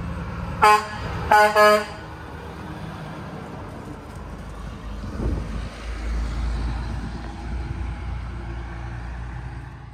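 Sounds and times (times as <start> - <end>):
truck diesel engine rumbling: 0.0 - 9.9.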